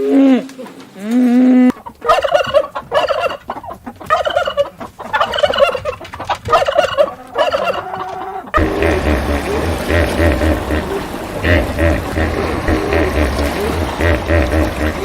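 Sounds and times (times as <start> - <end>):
turkeys gobbling: 0.0 - 15.0.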